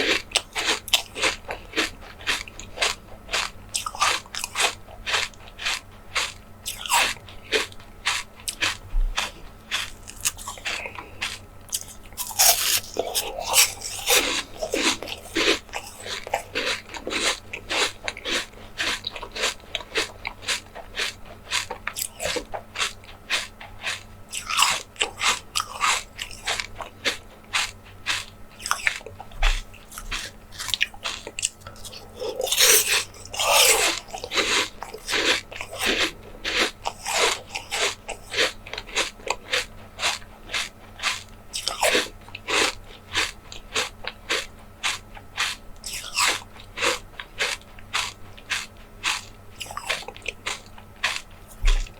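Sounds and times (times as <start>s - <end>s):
biting and chewing jelly: 0.0s - 51.9s.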